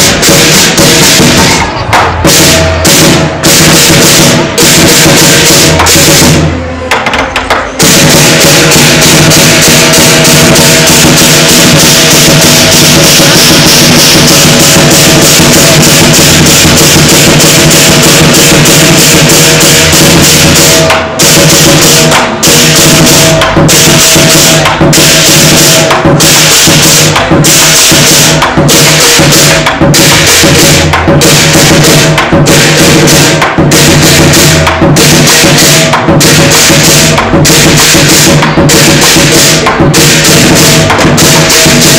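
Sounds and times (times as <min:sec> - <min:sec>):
big drum beating: 0:00.0 - 0:41.9
cymbals clashing: 0:00.0 - 0:41.9
gong: 0:00.1 - 0:41.9.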